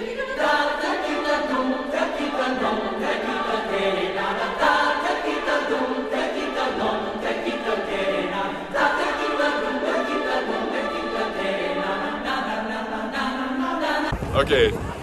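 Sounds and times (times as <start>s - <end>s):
choir singing: 0.0s - 14.2s.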